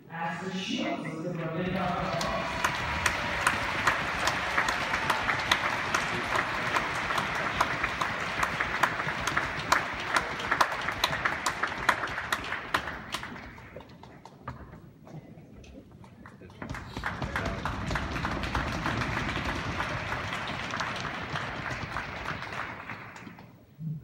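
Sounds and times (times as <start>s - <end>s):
audience applauding: 1.7s - 14.7s, 16.1s - 23.6s.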